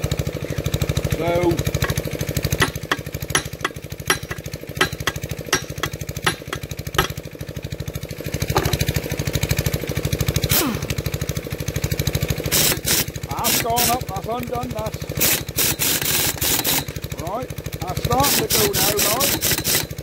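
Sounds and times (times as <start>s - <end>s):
air compressor pulsing: 0.3s - 20.0s.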